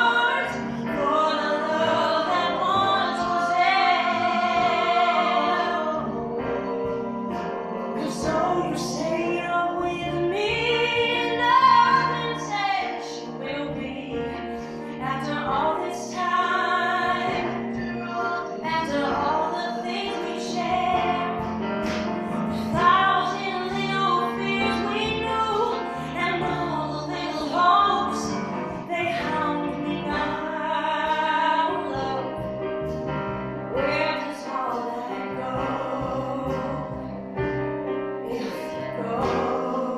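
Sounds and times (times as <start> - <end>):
woman singing: 0.0 - 6.8, 8.0 - 21.5, 22.4 - 32.5, 33.7 - 37.0, 38.2 - 39.9
acoustic guitar: 0.0 - 39.9
piano: 0.0 - 39.9.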